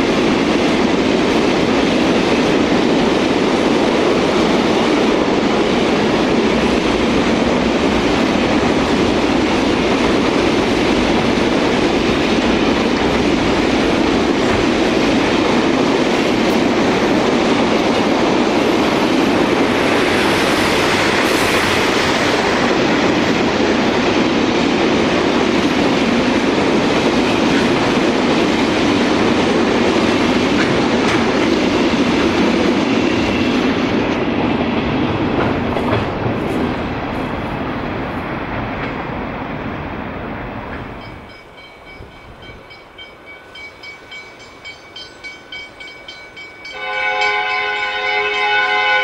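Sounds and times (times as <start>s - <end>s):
freight train wheels on rail: 0.0s - 49.0s.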